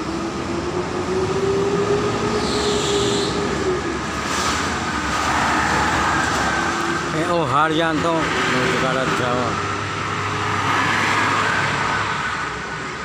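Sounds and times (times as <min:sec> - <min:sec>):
highway traffic noise: 0:00.0 - 0:13.0.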